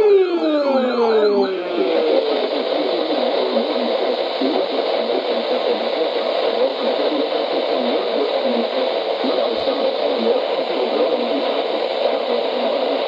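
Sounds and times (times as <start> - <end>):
radio static hiss: 1.3 - 13.0.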